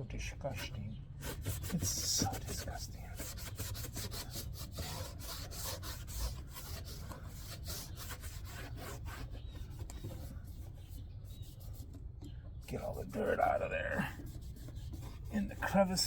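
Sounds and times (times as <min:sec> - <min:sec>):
rag rubbing on car body: 0:00.5 - 0:16.0.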